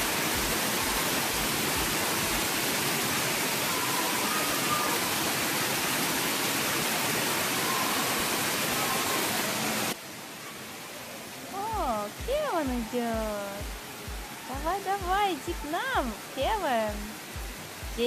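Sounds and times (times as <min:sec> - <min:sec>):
fountain water pouring and splashing: 0:00.0 - 0:18.0.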